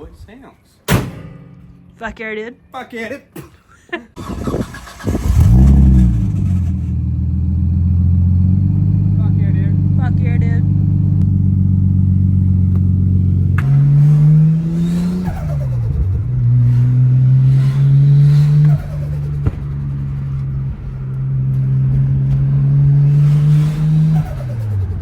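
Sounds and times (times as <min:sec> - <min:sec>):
turbocharged car engine revving: 0:04.2 - 0:25.0.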